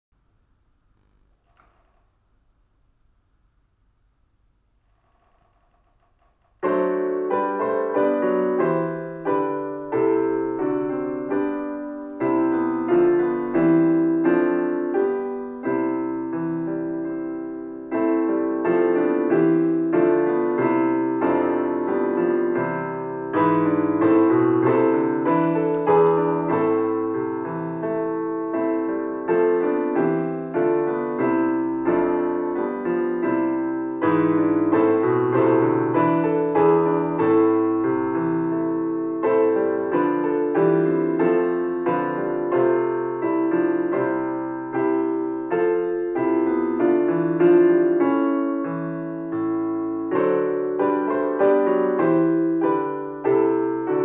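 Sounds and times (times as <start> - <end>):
slow piano chords: 4.8 - 54.0.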